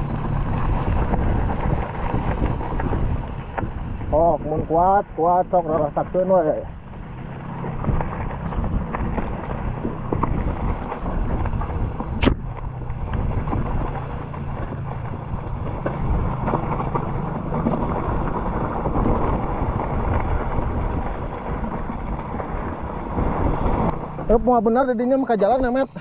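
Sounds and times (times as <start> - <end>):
bike tyres rattling on rough ground: 0.0 - 26.0
wind rumble on microphone: 0.0 - 26.0.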